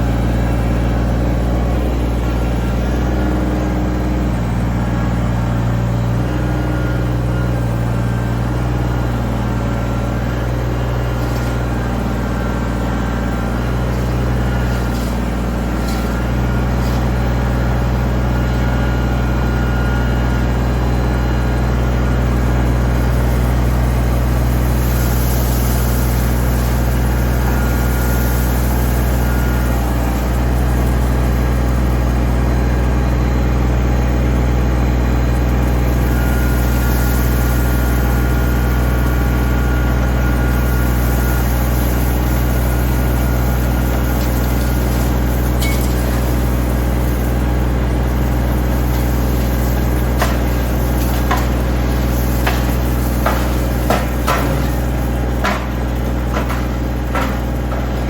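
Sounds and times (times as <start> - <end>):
heavy engine idling: 0.0 - 58.0.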